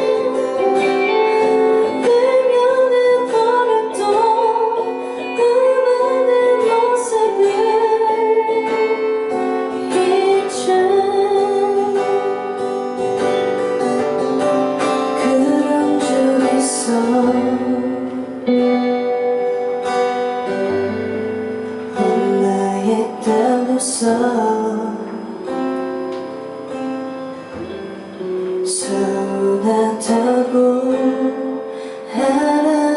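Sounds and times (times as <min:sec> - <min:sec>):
woman singing: 0:00.0 - 0:12.9, 0:14.8 - 0:19.4, 0:21.8 - 0:26.1, 0:27.7 - 0:32.9
strummed acoustic guitar: 0:00.0 - 0:32.9.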